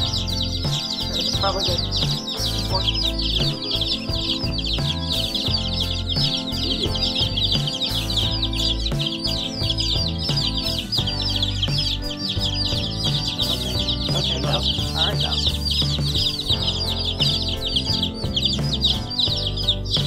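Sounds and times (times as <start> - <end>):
baby chicks peeping: 0.0 - 20.0
background music with steady beat: 0.0 - 20.0.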